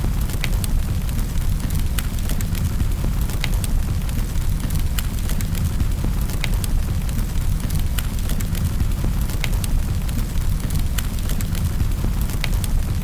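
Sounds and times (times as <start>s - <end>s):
low rumble of flames: 0.0s - 13.0s
sharp snaps and pops of fire: 0.0s - 13.0s
wood fire crackling: 0.0s - 13.0s.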